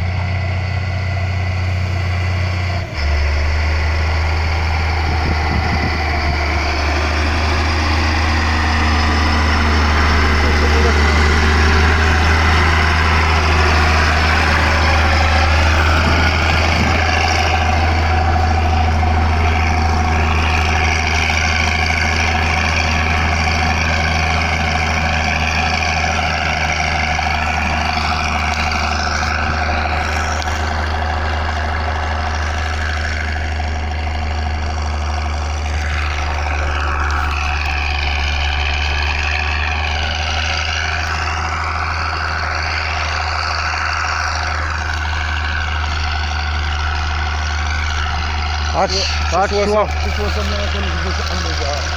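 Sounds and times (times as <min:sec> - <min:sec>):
heavy engine droning: 0:00.0 - 0:51.9.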